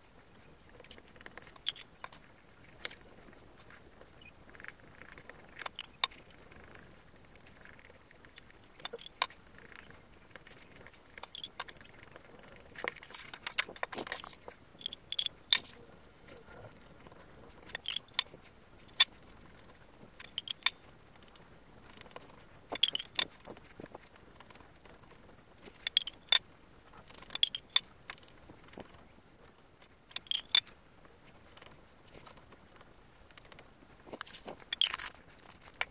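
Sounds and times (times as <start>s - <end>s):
small clicks: 0.3s - 29.0s, 29.8s - 35.9s.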